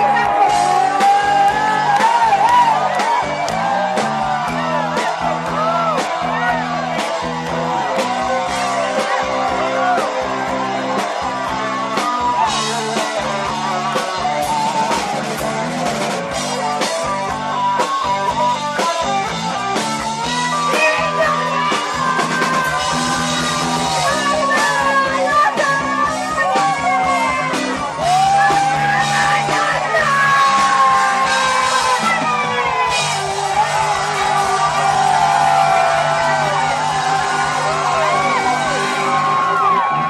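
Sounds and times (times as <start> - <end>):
electric guitars: 0.0 - 40.0
steady drum beat: 0.0 - 40.0.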